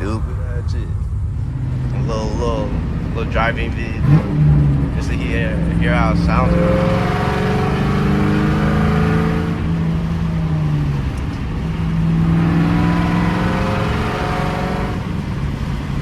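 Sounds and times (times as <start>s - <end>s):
car engine exhaust revving: 0.0s - 16.0s.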